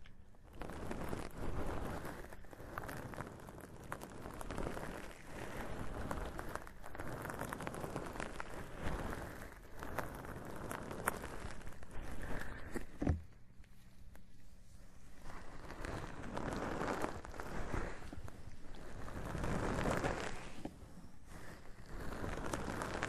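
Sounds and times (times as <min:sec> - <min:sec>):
crackly rustling and handling: 0:00.0 - 0:23.0.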